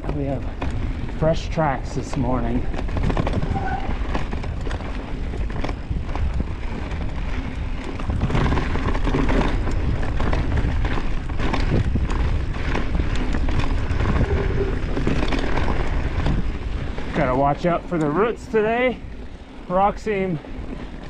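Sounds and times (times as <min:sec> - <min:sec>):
bike clicks and rattles: 0:00.0 - 0:21.0
wind and tyre rumble: 0:00.0 - 0:21.0.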